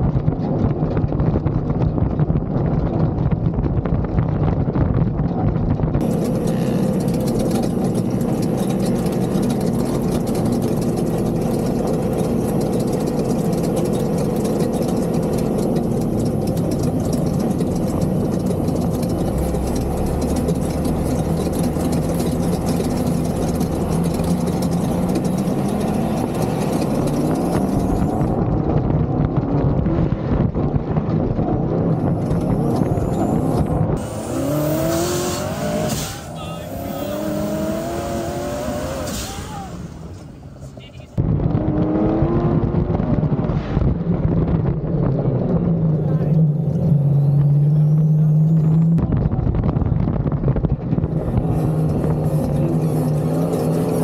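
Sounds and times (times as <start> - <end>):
engine running hard: 0.0 - 54.0.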